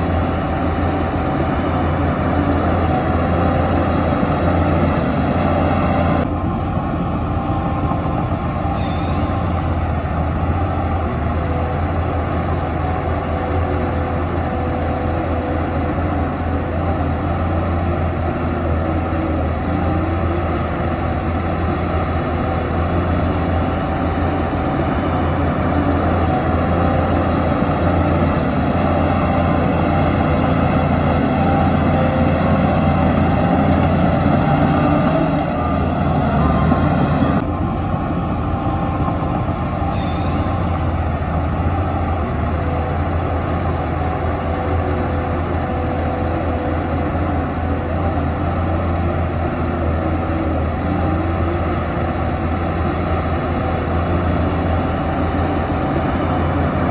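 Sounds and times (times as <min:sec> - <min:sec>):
heavy diesel engine droning: 0:00.0 - 0:56.9.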